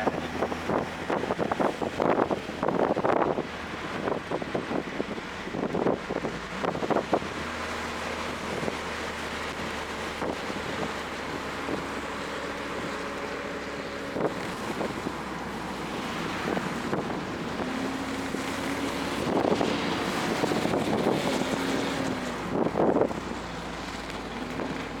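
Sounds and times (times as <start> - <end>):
car engine running: 0.0 - 25.0
wind buffeting microphone: 0.0 - 25.0.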